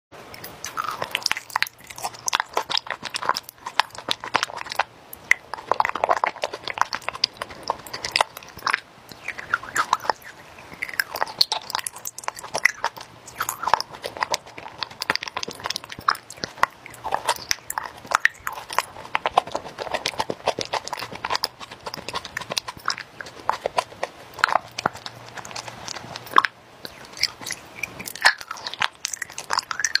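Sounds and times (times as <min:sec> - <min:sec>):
chewing raw honeycomb: 0:00.2 - 0:30.0.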